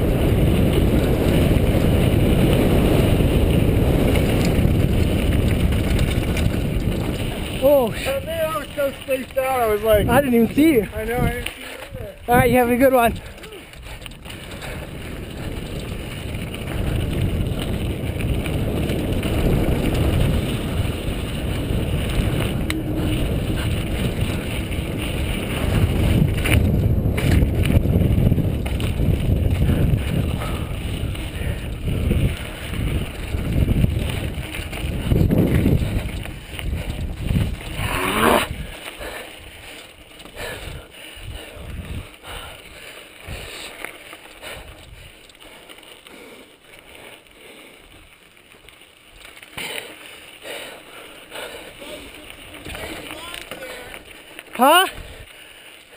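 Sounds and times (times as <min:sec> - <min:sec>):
bike tyres rolling on dirt: 0:00.0 - 0:55.9
wind buffeting microphone: 0:00.0 - 0:55.9.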